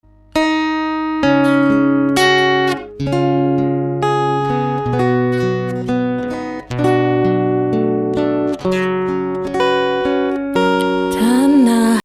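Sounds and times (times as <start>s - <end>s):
plucked guitar notes: 0.1s - 12.0s.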